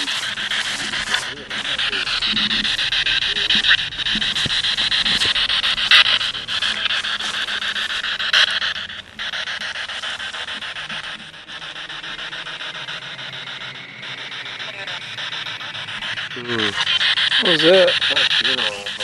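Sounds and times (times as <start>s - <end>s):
loud crackles: 0.0s - 19.0s
radio static scanning: 0.0s - 19.0s.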